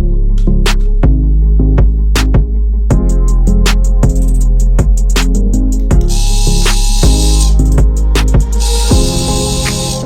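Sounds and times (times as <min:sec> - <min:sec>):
background music with drums and bass: 0:00.0 - 0:10.0.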